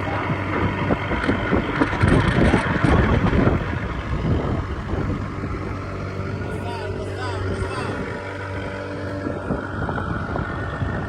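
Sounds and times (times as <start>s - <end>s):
boat engine hum: 0.0s - 11.0s
water against hull: 0.0s - 11.0s
wind on microphone: 0.0s - 11.0s.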